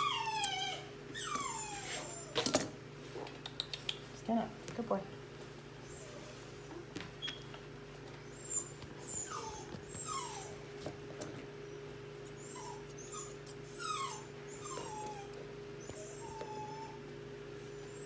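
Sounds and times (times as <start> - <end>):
puppy whining: 0.0 - 2.8, 5.8 - 18.0
steady low hum: 0.0 - 18.0.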